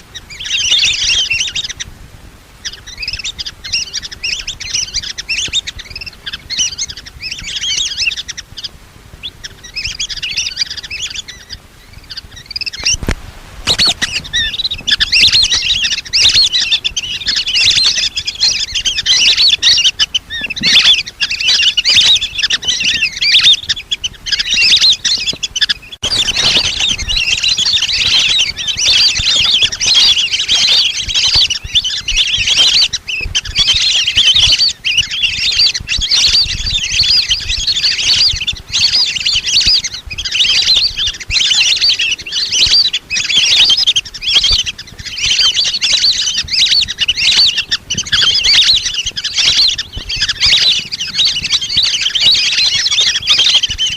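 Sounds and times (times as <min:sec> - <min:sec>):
ducks whistling calls: 0:00.0 - 0:01.9, 0:02.5 - 0:53.9.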